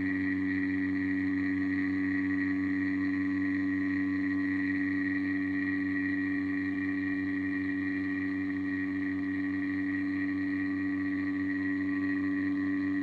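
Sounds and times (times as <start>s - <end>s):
machine hum with high whine: 0.0s - 13.0s.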